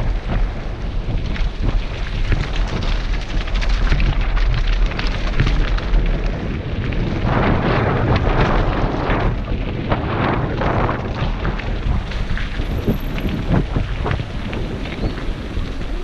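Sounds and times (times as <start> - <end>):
bike rattling over gravel: 0.0 - 16.0
wind buffeting microphone: 0.0 - 16.0.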